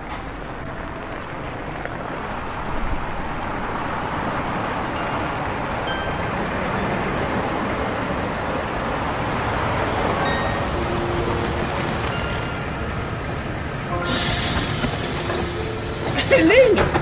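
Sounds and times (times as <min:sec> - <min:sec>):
coach engine and road noise: 0:00.0 - 0:17.0.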